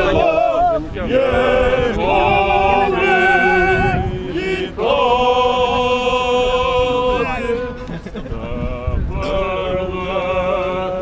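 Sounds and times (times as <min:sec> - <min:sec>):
crowd singing together: 0:00.0 - 0:11.0.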